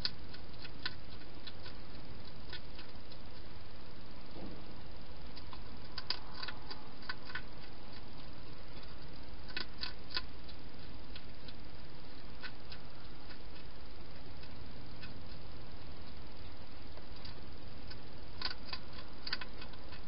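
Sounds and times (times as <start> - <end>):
hedgehog crunching food: 0.0 - 20.0
steady hiss: 0.0 - 20.0.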